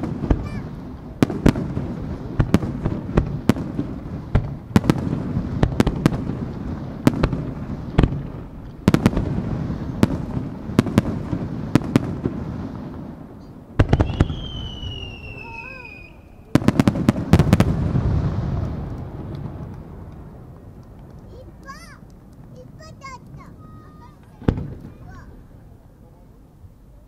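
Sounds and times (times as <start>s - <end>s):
firework shells bursting: 0.0s - 25.6s.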